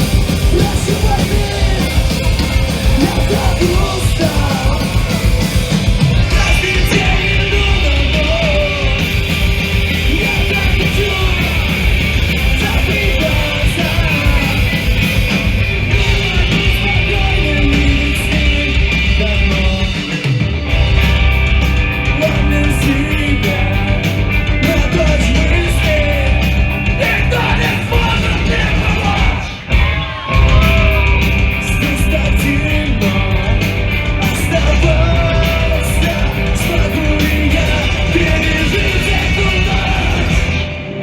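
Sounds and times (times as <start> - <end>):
band playing loud: 0.0 - 41.0
yelled vocals: 0.0 - 41.0.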